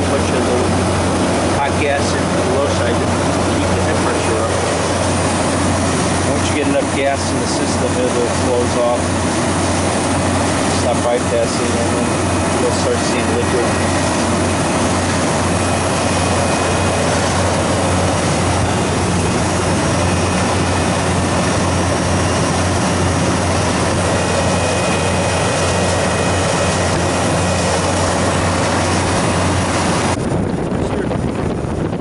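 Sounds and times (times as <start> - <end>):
compressor hum: 0.0 - 32.0
fan air rushing: 0.0 - 32.0.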